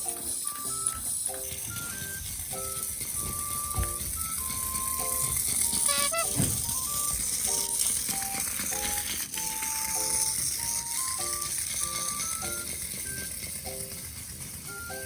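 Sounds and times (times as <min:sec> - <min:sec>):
toy mechanism rattling: 0:00.0 - 0:15.0.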